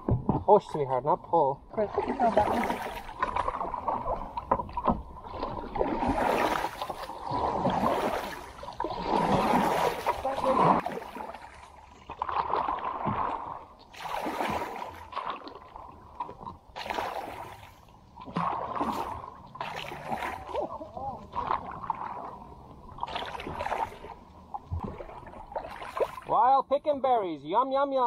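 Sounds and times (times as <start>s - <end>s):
paddle strokes splashing water: 1.7s - 26.4s.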